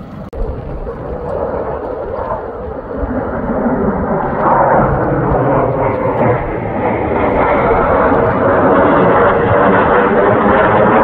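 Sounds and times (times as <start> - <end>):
fighter jets flying overhead: 0.0 - 11.0.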